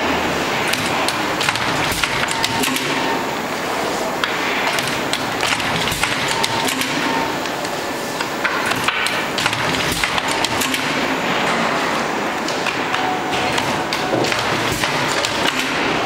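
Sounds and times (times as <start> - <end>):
steady workshop noise: 0.0 - 16.0
binding machine clicks and knocks: 0.5 - 3.2, 4.2 - 11.8, 12.4 - 16.0.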